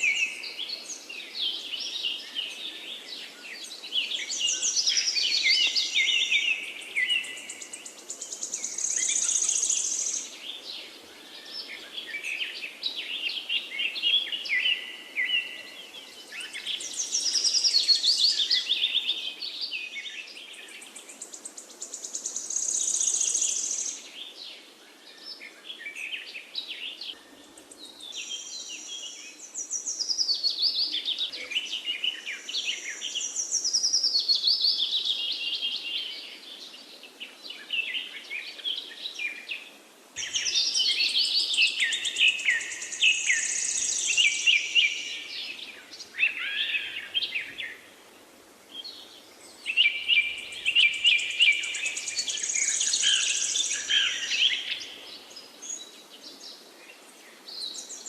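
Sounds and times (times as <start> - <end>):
faint background hiss: 0.0 - 58.0
songbirds chirping and singing: 0.0 - 58.0.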